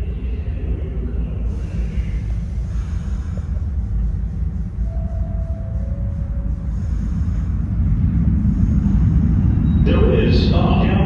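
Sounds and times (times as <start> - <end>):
faint tone: 0.0 - 10.6
subway train rumbling in tunnel: 0.0 - 11.0.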